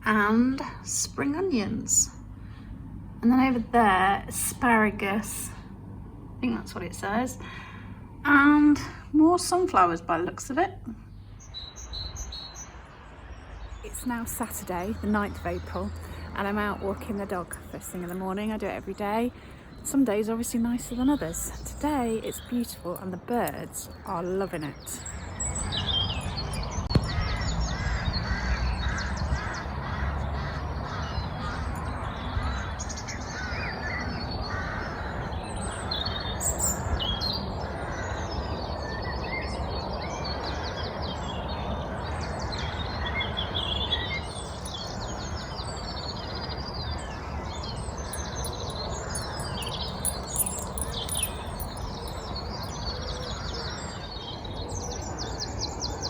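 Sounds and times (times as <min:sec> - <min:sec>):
birds chirping and trilling: 0:11.0 - 0:56.0.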